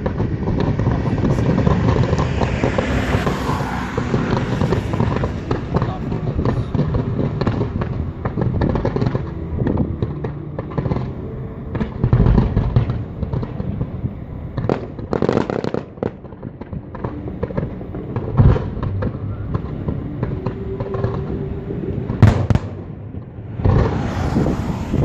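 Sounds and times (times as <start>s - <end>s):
continuous rumble: 0.0s - 25.0s
fireworks bangs and crackling: 0.0s - 25.0s.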